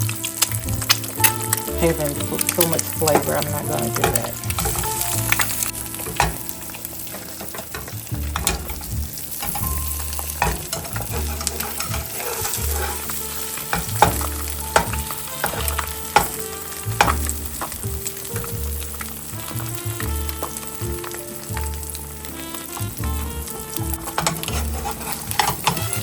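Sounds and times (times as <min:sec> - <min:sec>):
egg sizzling in a pan: 0:00.0 - 0:26.0
sharp pops and crackles: 0:00.0 - 0:26.0.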